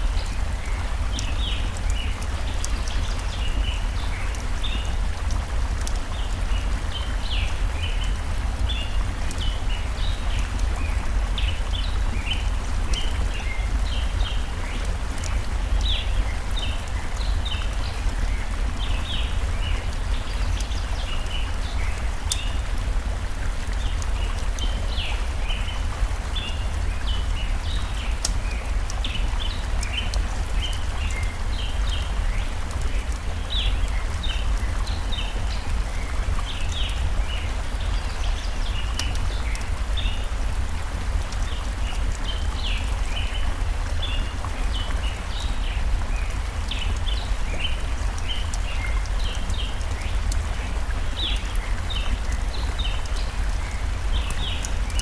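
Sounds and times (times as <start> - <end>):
small birds chirping: 0.0 - 55.0
stream flowing: 0.0 - 55.0
wood fire crackling: 0.0 - 55.0.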